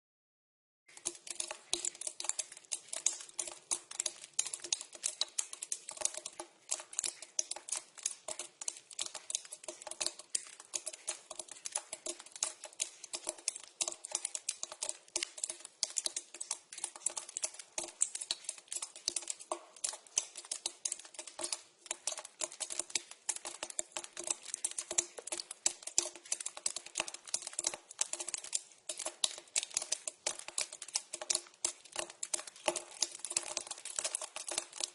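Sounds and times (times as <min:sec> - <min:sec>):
water dripping into a pipe: 0:00.9 - 0:34.9.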